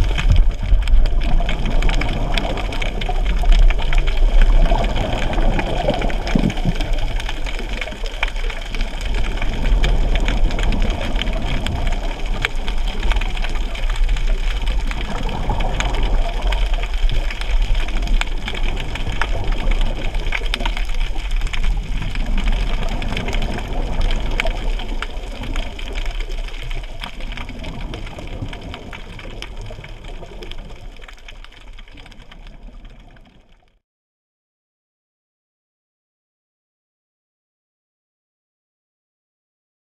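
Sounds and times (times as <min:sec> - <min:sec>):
faint underwater clicks: 0:00.0 - 0:33.8
underwater low rumble: 0:00.0 - 0:33.8.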